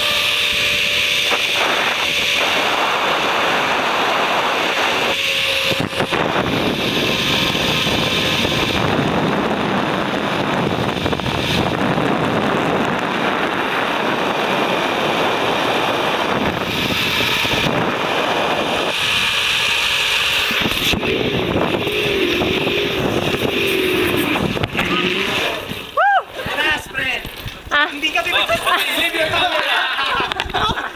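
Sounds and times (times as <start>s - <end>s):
zipline trolley hissing on cable: 0.0s - 26.2s
wavering hum: 0.0s - 26.5s
wind on microphone: 0.0s - 27.8s.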